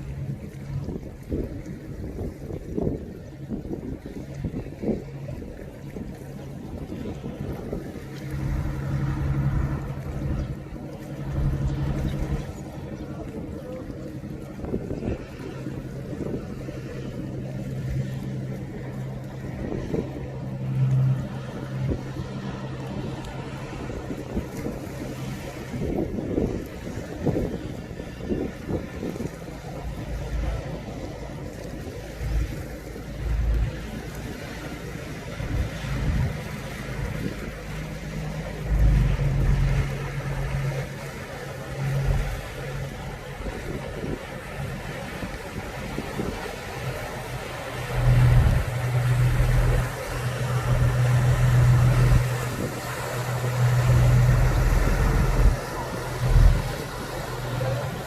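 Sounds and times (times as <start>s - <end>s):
low engine hum: 0.0s - 58.0s
wind buffeting microphone: 0.0s - 58.0s.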